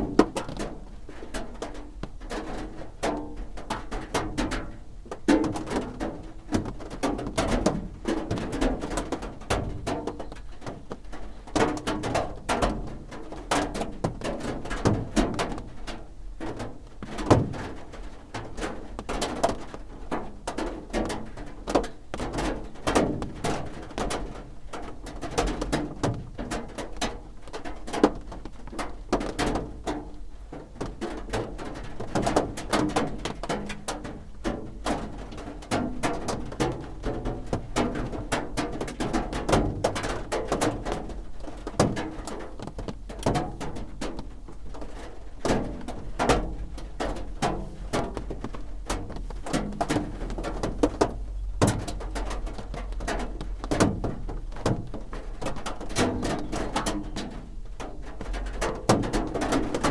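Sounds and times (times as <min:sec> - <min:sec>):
rain drumming on a roof: 0:00.0 - 0:59.9.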